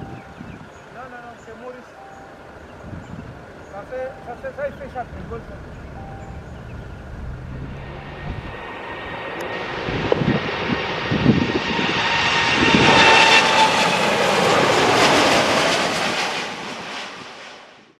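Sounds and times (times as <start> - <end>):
jet engine roar: 3.3 - 17.8.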